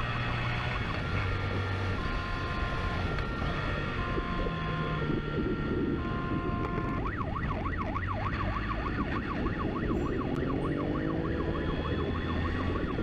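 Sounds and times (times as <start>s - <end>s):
vehicle rumbling at speed: 0.0s - 13.0s
police siren yelping: 0.6s - 13.0s.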